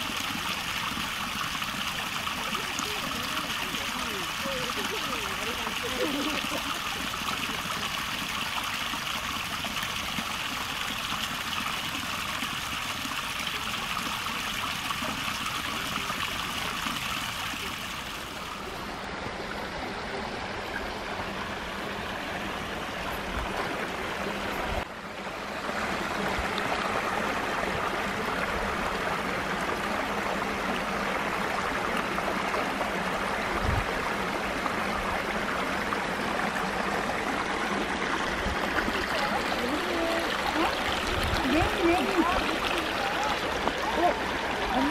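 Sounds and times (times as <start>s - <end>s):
stream water trickling over rocks: 0.0s - 44.9s.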